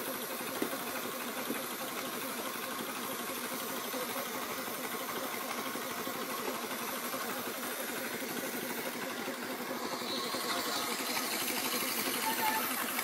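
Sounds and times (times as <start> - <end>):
small engine running: 0.0 - 13.0
steady hiss: 0.0 - 13.0.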